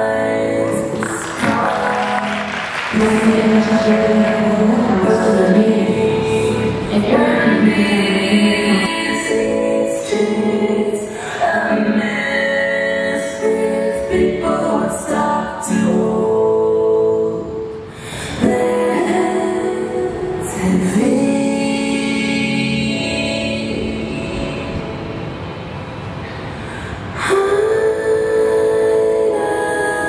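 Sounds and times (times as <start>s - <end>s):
woman singing over accompaniment: 0.0s - 25.1s.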